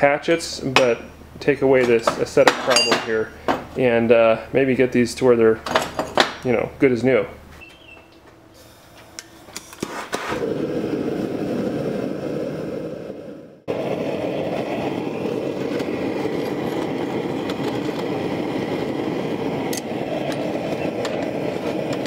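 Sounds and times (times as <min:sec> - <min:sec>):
gas forge burners roaring: 0:00.0 - 0:22.0.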